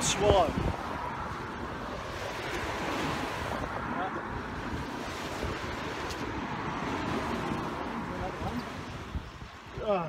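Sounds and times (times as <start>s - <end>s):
waves washing against shore: 0.0s - 10.0s
wind buffeting microphone: 0.0s - 10.0s.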